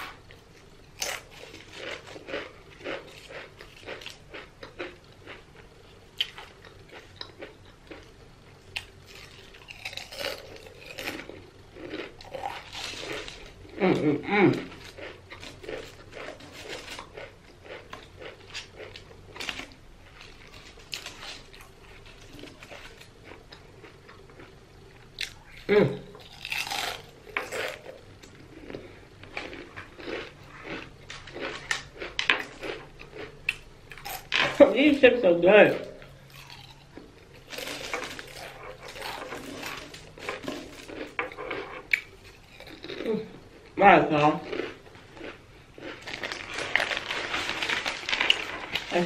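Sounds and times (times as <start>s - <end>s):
chewing and crunching food: 0.0s - 49.0s.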